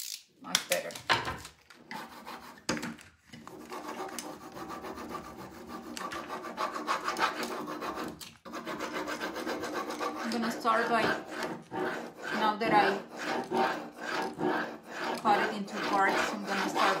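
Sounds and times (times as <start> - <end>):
scratchy rubbing on wood: 1.9 - 2.7, 3.4 - 17.0.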